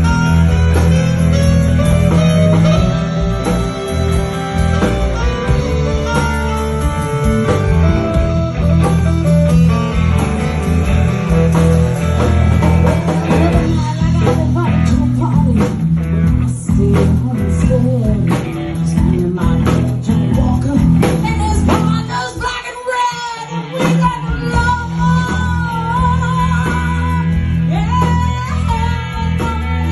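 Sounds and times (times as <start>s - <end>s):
bass and drums groove: 0.0s - 29.9s
electric guitar with bent notes: 0.0s - 29.9s.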